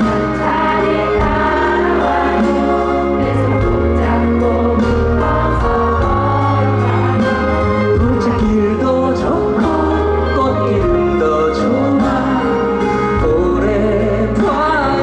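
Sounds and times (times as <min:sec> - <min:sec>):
live pop band music: 0:00.0 - 0:15.0
person singing: 0:00.0 - 0:15.0
steady bass line: 0:00.0 - 0:15.0.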